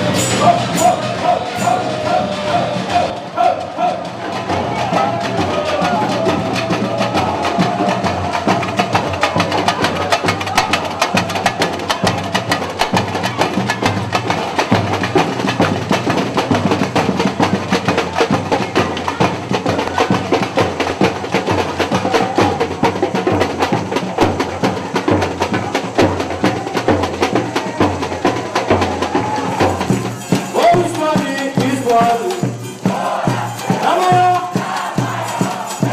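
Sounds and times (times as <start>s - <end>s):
samba percussion: 0.0s - 35.9s.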